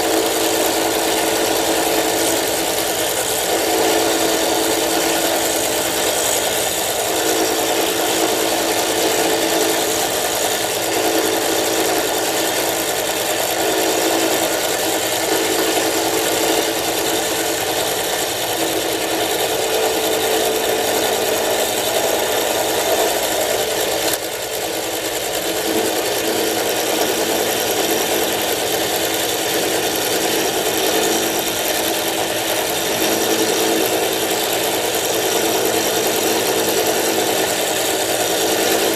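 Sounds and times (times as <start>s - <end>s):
milling machine humming: 0.0s - 38.9s.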